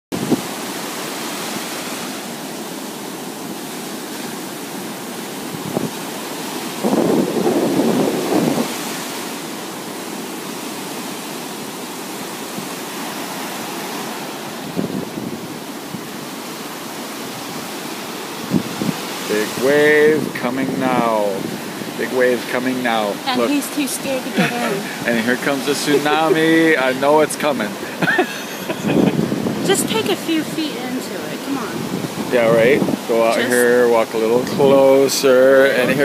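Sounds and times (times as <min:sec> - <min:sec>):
wind buffeting microphone: 0:00.1 - 0:01.4, 0:04.3 - 0:09.5, 0:12.5 - 0:36.0
surf breaking on a beach: 0:00.1 - 0:36.0.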